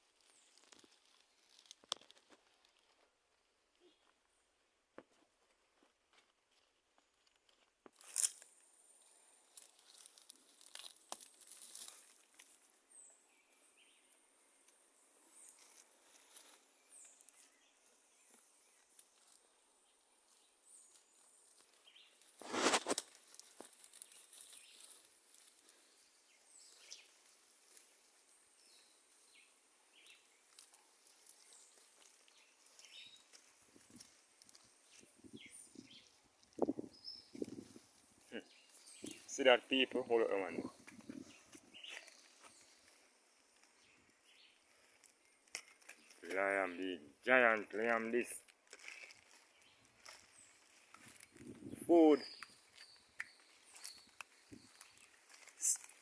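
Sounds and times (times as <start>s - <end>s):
rustling and crunching: 0.0s - 56.0s.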